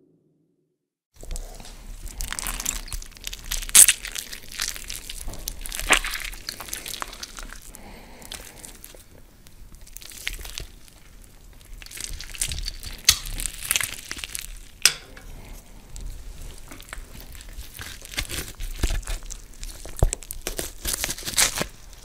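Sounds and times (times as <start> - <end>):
crunching and crinkling: 1.2 - 22.0.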